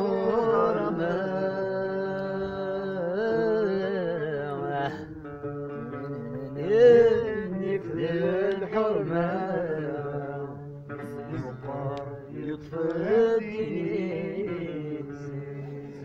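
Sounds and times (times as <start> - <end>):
person singing chant-like melody: 0.0 - 16.0.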